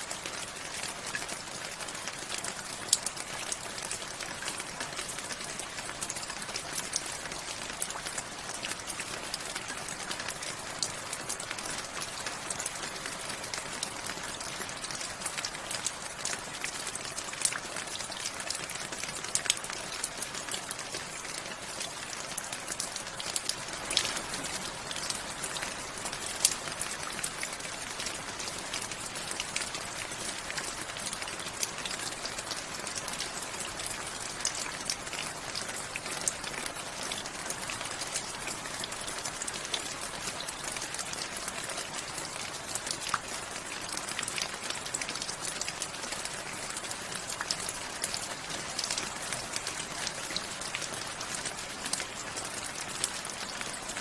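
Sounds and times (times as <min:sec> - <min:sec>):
raindrops ticking on a surface: 0:00.0 - 0:54.0.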